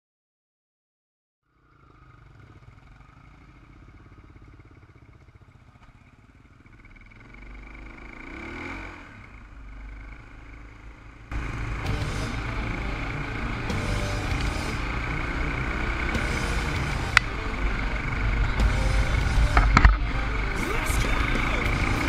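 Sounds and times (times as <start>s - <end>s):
dirt bike engine revving: 1.5s - 22.0s.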